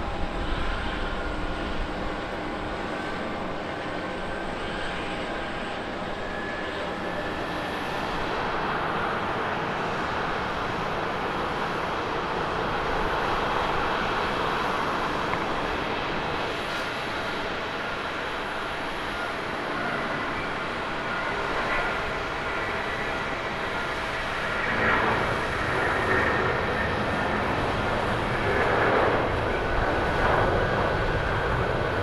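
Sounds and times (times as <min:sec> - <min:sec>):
jet engines roaring at takeoff: 0:00.0 - 0:32.0
jet engines whining: 0:00.0 - 0:32.0.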